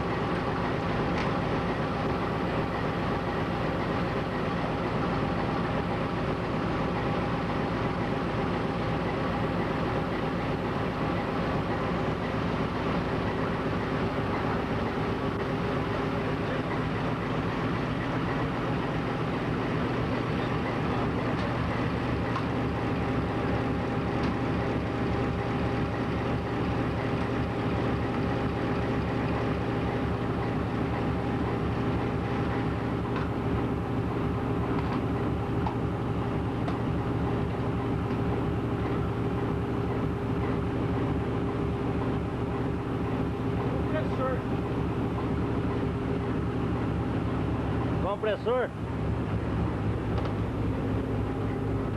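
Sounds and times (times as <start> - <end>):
diesel locomotive engine running: 0.0 - 51.9.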